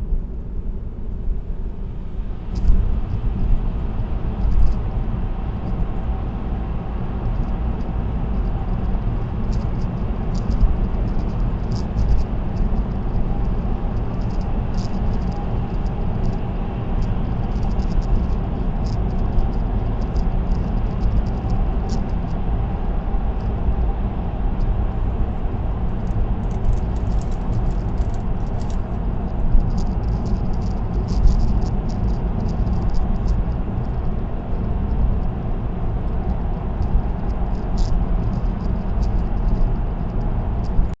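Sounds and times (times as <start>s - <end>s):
car road and tyre noise: 0.0s - 41.0s
faint ticks and rattles: 2.4s - 23.9s, 24.6s - 41.0s.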